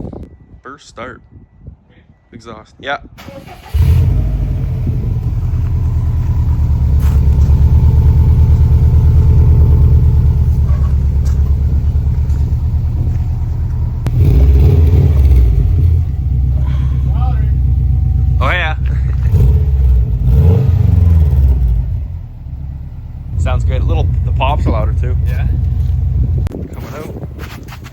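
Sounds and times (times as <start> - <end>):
car engine starting and idling: 3.2 - 26.5.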